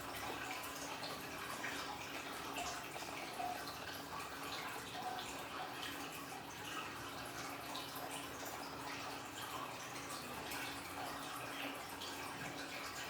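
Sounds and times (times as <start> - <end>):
water drips: 0.0 - 13.0
water trickling and splashing: 0.0 - 13.0.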